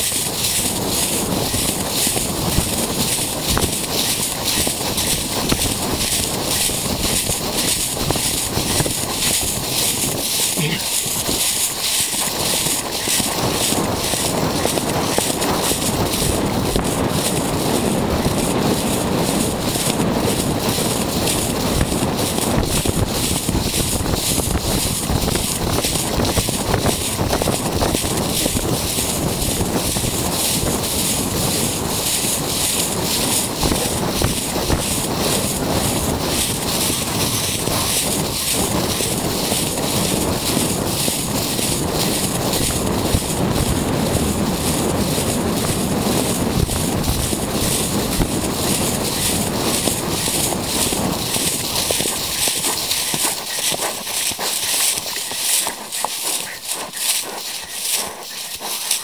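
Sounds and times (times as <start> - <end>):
horse hoofbeats thudding: 0.0 - 59.0
wind rushing over microphone: 0.0 - 59.0.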